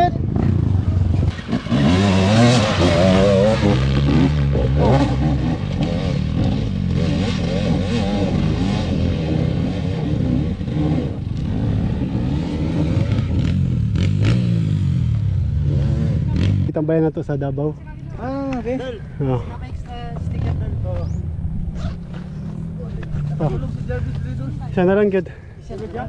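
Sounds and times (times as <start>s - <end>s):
motorcycle engine revving: 0.0s - 17.6s, 20.0s - 25.3s.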